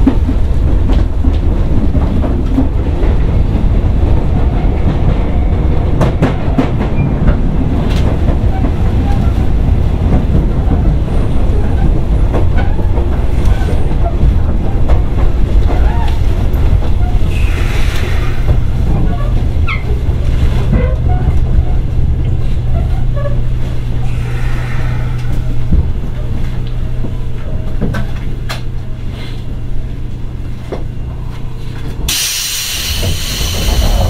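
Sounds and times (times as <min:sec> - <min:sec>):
rail joint clicks: 0:00.0 - 0:34.0
train wheels rumbling: 0:00.0 - 0:34.0.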